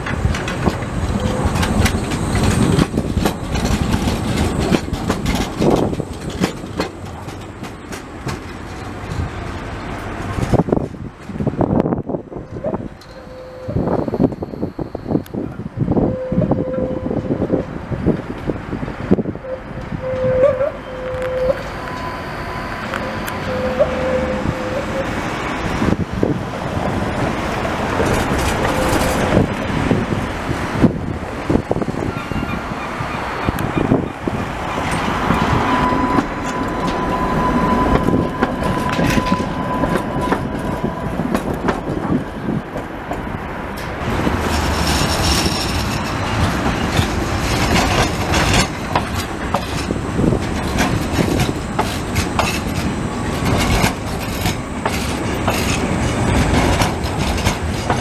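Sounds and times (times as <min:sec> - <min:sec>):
tram wheels clattering over rails: 0:00.0 - 0:58.0.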